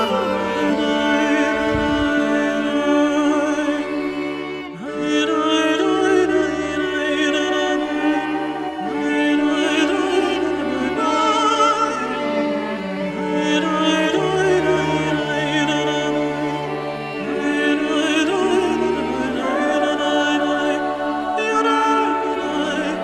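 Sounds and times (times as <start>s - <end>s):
operatic singing with vibrato: 0.0s - 23.0s
sustained musical accompaniment: 0.0s - 23.0s.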